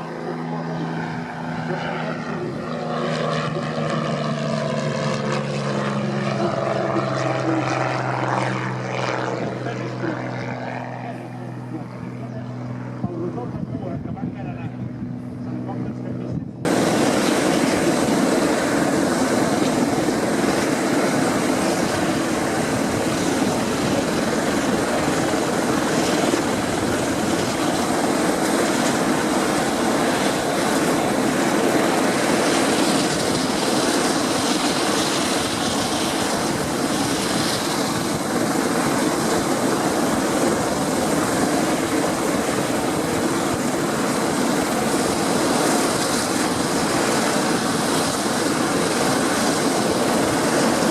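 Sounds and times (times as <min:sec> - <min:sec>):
propeller plane engine running: 0:00.0 - 0:50.9.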